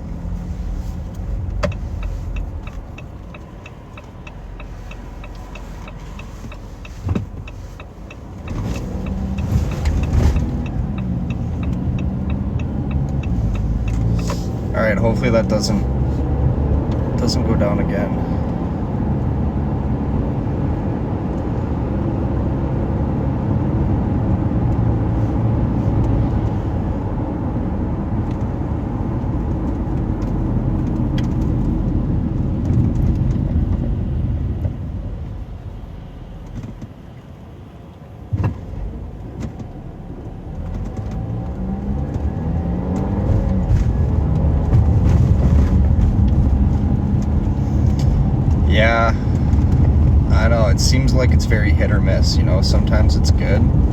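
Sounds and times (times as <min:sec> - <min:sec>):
car road and engine noise: 0:00.0 - 0:53.9.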